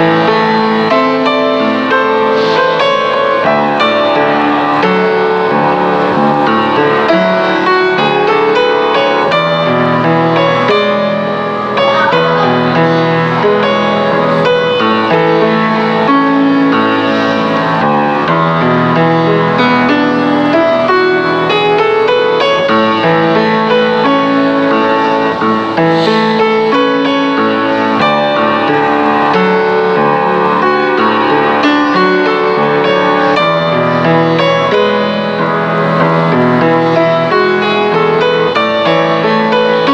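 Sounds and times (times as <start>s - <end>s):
piano background music: 0.0s - 39.9s.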